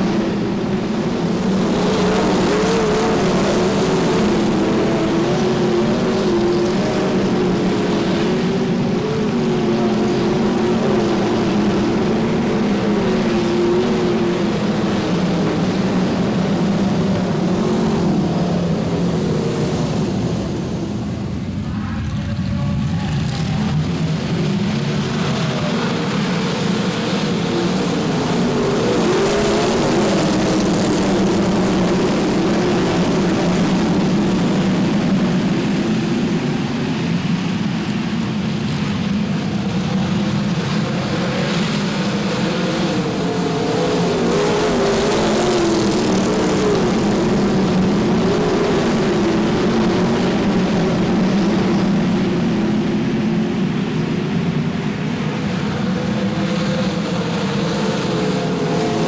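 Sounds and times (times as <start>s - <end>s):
race car engines at high revs: 0.0s - 59.0s.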